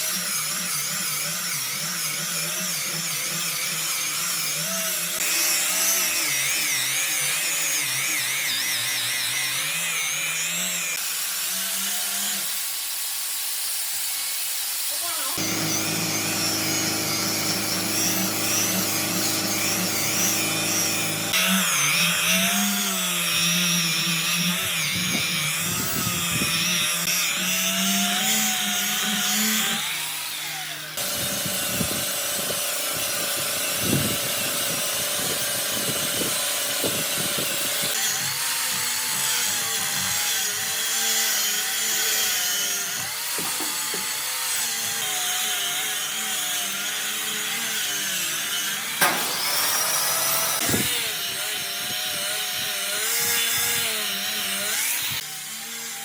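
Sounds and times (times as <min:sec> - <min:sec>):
power tools cutting wood: 0:00.0 - 0:56.0.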